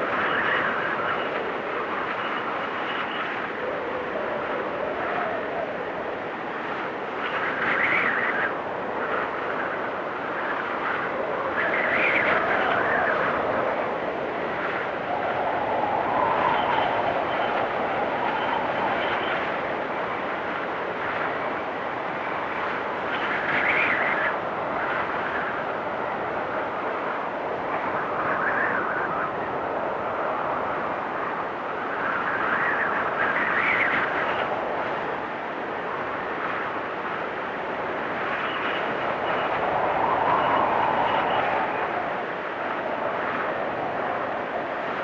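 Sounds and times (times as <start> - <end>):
wind rushing through trees: 0.0 - 45.0.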